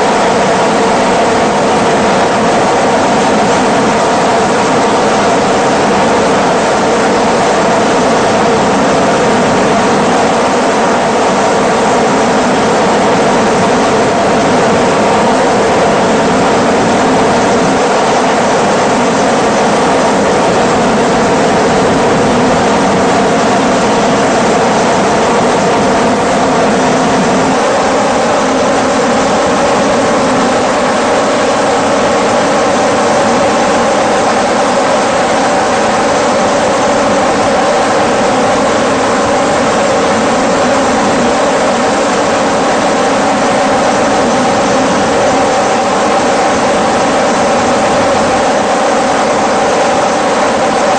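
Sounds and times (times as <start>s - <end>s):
loud engine drone: 0.0s - 50.9s.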